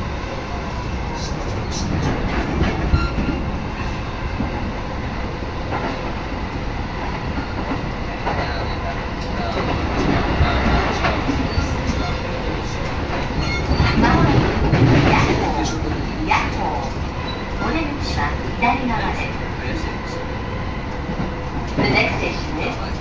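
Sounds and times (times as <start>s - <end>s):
clickety-clack of rails: 0.0s - 23.0s
train wheels rumbling on rails: 0.0s - 23.0s.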